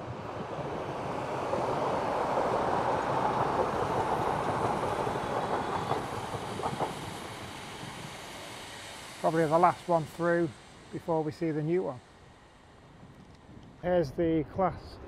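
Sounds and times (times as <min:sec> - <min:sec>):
electric train passing: 0:00.0 - 0:14.2.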